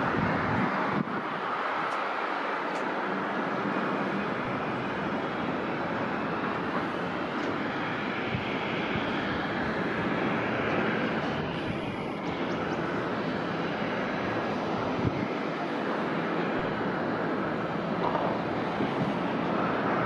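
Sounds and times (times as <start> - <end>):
jet airliner engines passing: 0.0 - 20.0.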